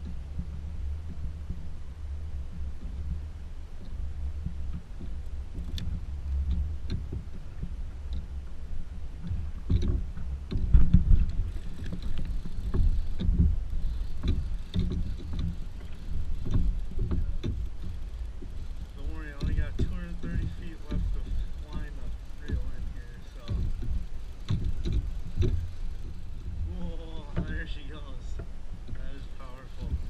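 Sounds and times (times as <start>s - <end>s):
knocks and thumps on kayak: 0.0s - 30.0s
steady low rumble: 0.0s - 30.0s.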